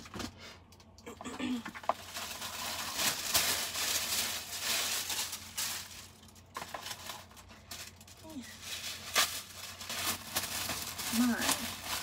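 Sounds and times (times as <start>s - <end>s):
paper packaging crinkling: 1.3s - 12.0s.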